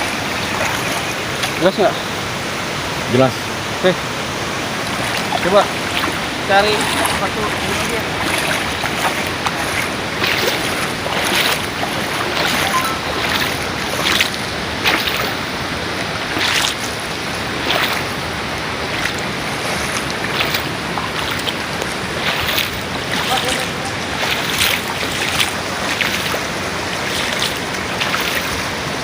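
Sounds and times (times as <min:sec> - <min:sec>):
rushing water: 0:00.0 - 0:29.0
water splashing surges: 0:00.0 - 0:29.0.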